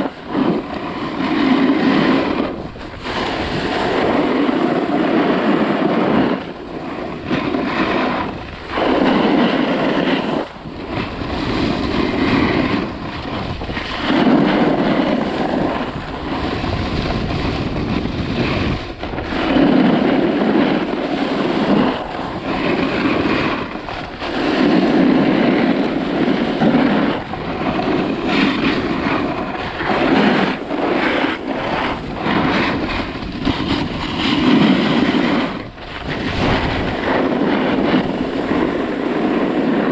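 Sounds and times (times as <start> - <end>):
snowboard edge scraping snow: 0.0 - 39.9
wind on microphone: 0.0 - 39.9.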